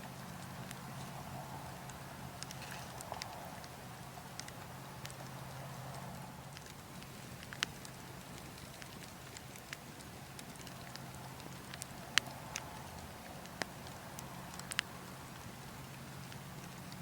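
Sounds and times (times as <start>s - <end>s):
burning logs crackling: 0.0s - 17.0s
fire popping: 0.0s - 17.0s
low rush of wind: 0.0s - 17.0s.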